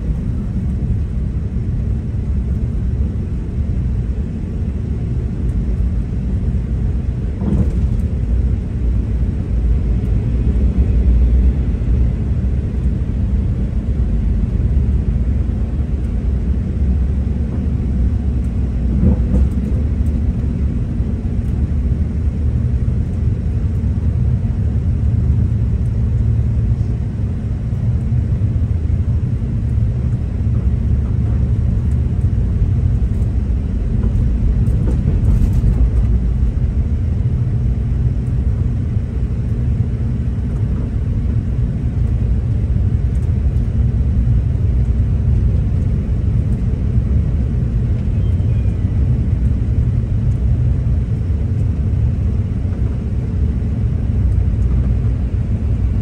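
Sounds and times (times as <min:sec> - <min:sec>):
train rumbling along track: 0:00.0 - 0:56.0.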